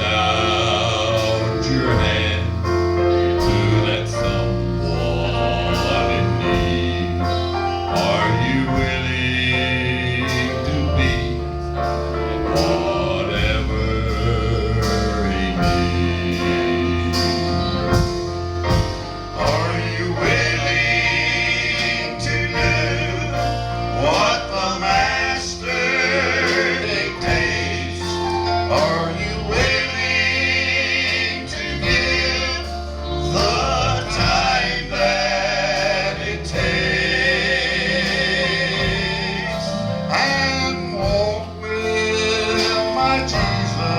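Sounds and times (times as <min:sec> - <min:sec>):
instrumental accompaniment: 0:00.0 - 0:43.9
male voices singing in harmony: 0:00.0 - 0:43.9.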